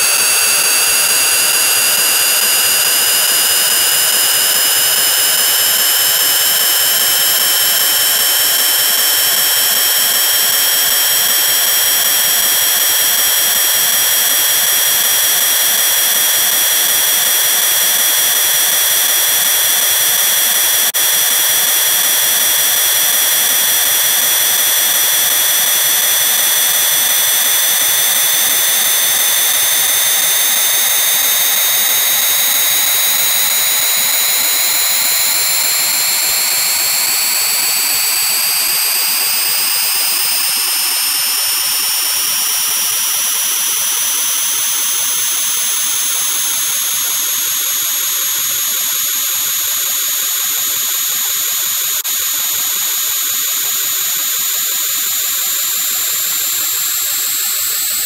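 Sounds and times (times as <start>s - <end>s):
distorted electronic drone: 0.0s - 47.7s
loud steady hiss: 0.0s - 58.0s.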